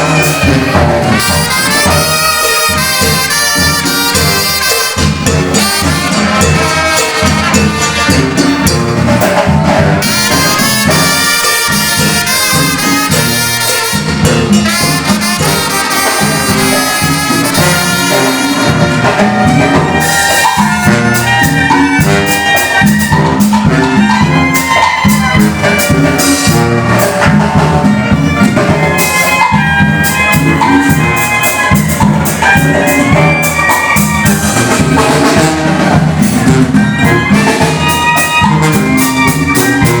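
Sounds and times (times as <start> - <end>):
bass and percussion beat: 0.0 - 40.0
brass band playing: 0.0 - 40.0.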